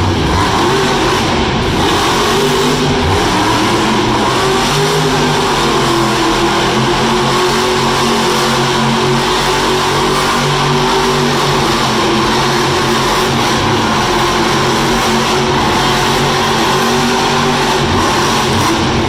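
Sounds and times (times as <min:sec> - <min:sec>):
truck engine at high revs: 0:00.0 - 0:19.0.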